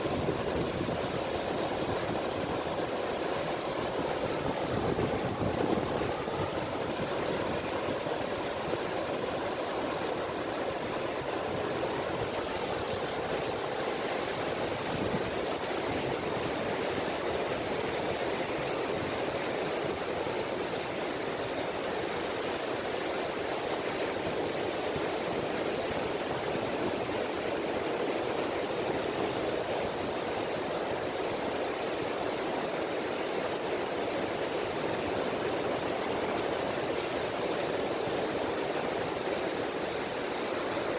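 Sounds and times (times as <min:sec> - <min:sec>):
small waves washing on beach: 0:00.0 - 0:40.9.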